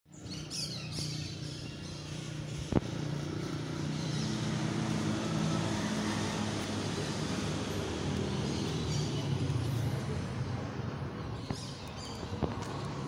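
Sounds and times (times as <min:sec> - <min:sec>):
engine humming: 0:00.7 - 0:13.0.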